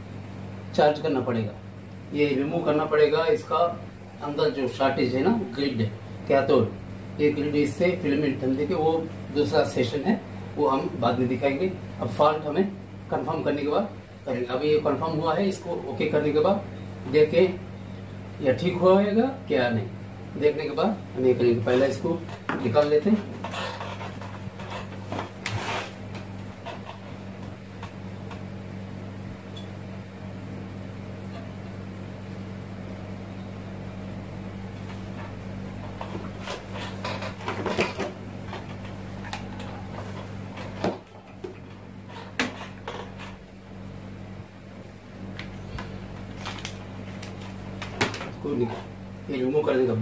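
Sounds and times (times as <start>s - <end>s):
low electrical hum: 0.0s - 50.0s.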